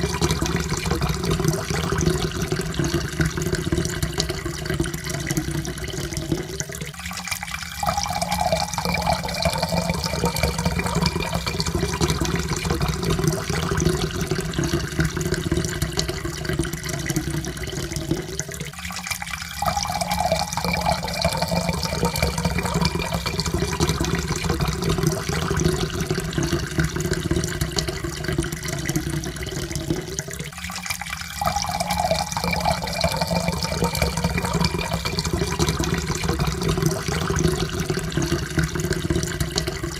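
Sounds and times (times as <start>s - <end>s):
water pouring into cup: 0.0s - 39.9s.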